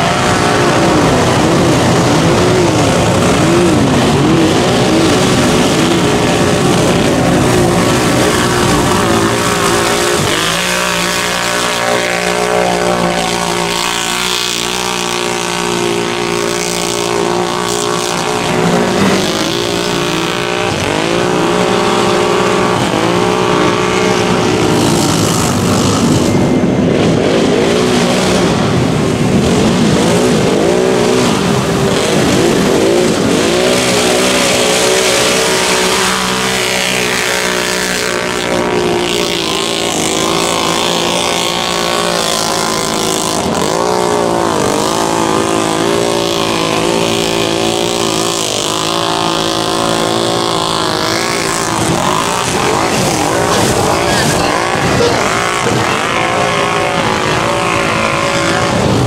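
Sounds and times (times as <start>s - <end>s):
atv engines revving: 0.0s - 59.0s.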